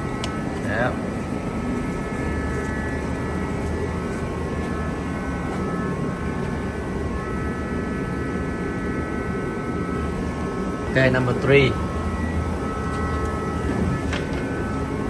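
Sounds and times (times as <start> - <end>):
high-pitched whining tones: 0.0 - 15.0
mechanical drone: 0.0 - 15.0.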